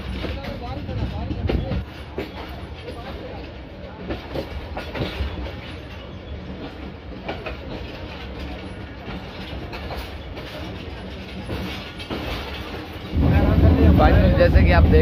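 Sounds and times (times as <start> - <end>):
train carriage rumble: 0.0 - 15.0
wheels clacking over rails: 0.0 - 15.0.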